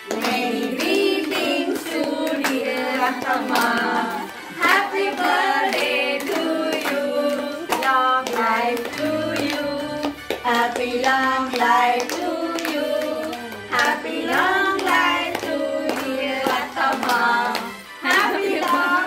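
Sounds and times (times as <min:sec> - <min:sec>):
women clapping hands: 0:00.0 - 0:19.0
women singing: 0:00.0 - 0:19.0.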